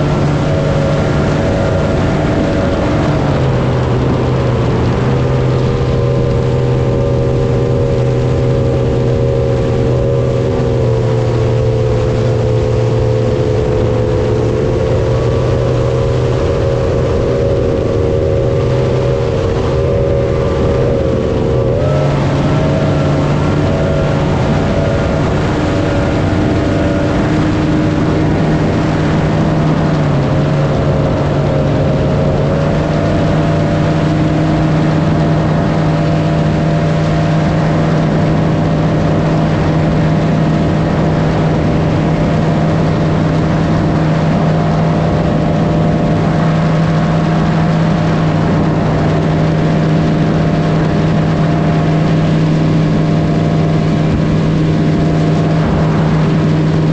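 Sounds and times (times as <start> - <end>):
large engine running: 0.0 - 56.9
rush of wind or water: 0.0 - 56.9.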